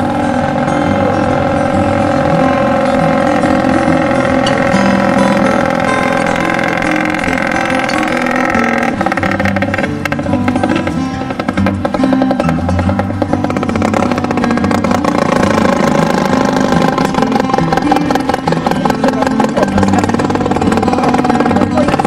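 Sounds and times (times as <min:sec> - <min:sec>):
background music with percussion: 0:00.0 - 0:22.0.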